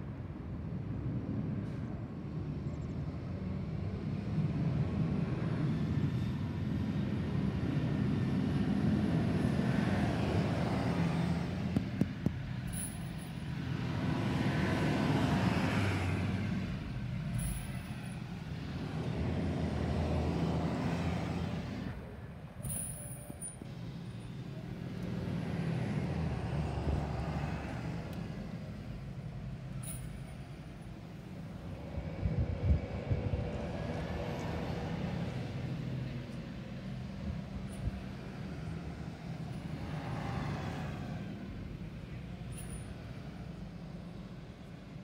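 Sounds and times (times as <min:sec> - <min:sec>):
buses driving past: 0:00.0 - 0:45.0.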